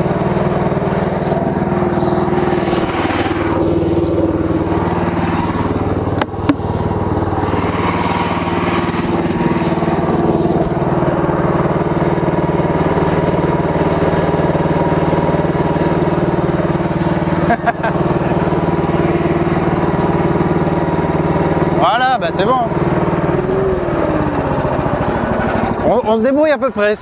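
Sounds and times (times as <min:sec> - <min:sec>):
excavator engine running: 0:00.0 - 0:27.0
hydraulics working: 0:00.0 - 0:27.0.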